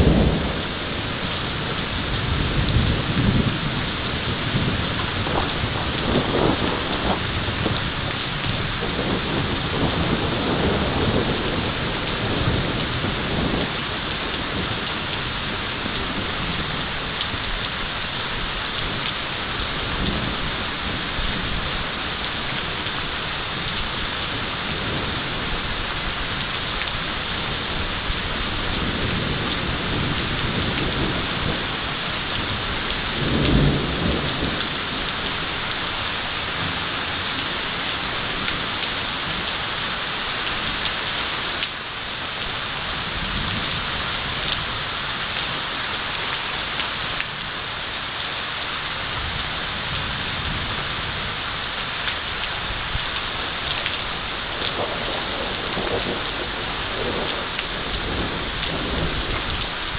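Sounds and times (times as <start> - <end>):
thunder rumbling: 0.0 - 41.6, 48.9 - 59.9
heavy rain: 0.0 - 59.9.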